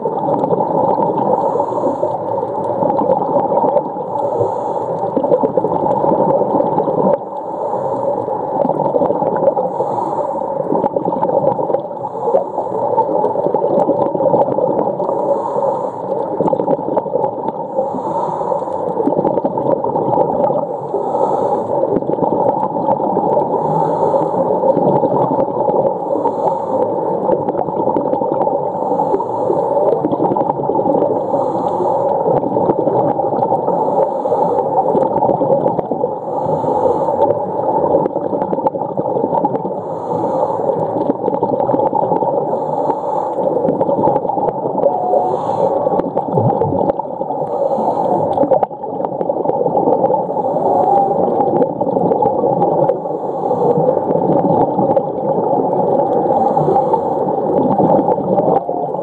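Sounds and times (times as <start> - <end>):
underwater water noise: 0.0 - 59.0.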